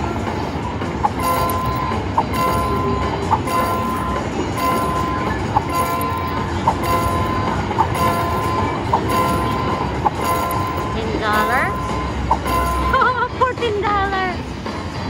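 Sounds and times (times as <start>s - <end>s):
clickety-clack train loop: 0.0s - 15.0s
held electronic tone: 1.0s - 13.2s.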